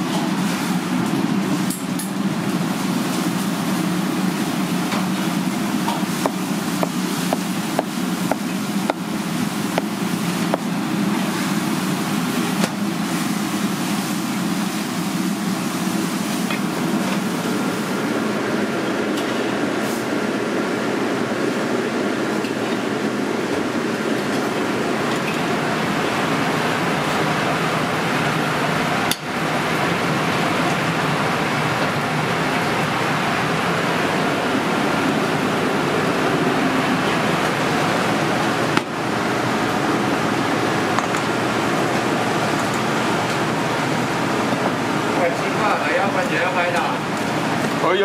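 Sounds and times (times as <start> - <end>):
kitchen roar: 0.0 - 48.0.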